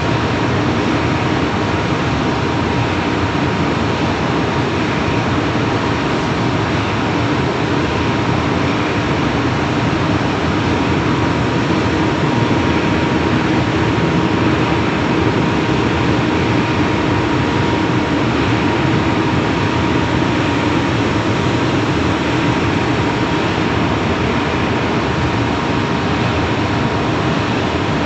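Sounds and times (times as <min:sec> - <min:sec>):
electric motor cooling air rush: 0:00.0 - 0:28.0
thin steady whine: 0:00.0 - 0:28.0.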